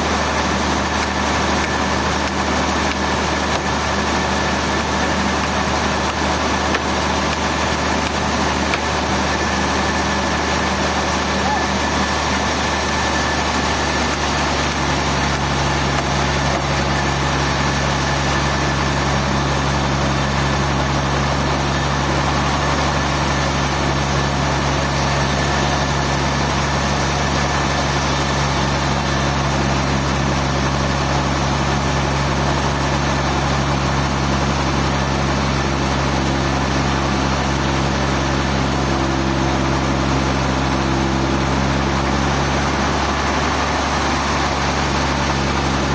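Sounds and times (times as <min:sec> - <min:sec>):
sawmill machinery humming: 0:00.0 - 0:45.9.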